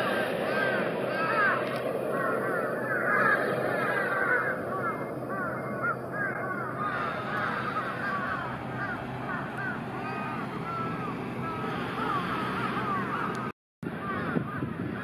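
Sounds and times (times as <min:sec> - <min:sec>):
crows cawing: 0:00.0 - 0:15.0
steady background noise: 0:00.0 - 0:15.0.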